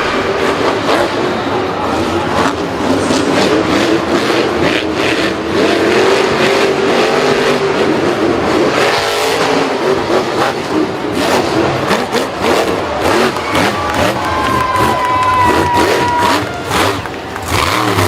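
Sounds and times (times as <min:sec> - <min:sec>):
dense roar: 0:00.0 - 0:18.0
engine revving: 0:00.0 - 0:18.0.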